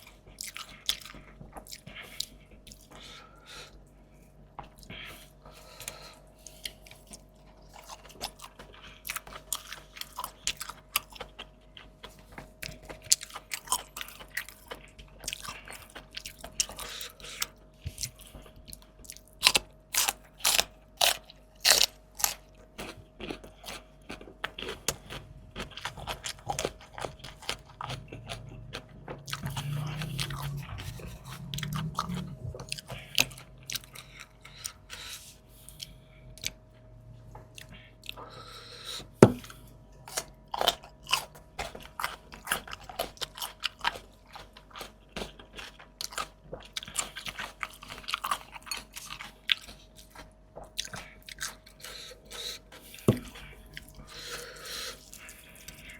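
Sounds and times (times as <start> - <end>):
crunchy chewing: 0.0 - 3.8, 4.6 - 36.7, 37.5 - 55.9
faint steady hum: 0.0 - 55.9.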